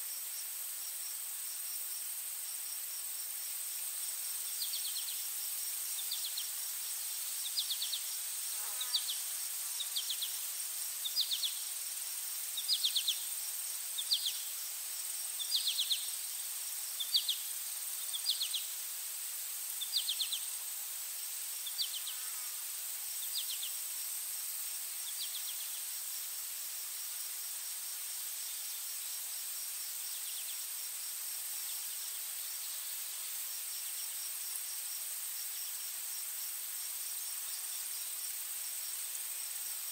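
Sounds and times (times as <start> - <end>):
insect chirps: 0.0 - 39.9
insects trilling: 0.0 - 39.9.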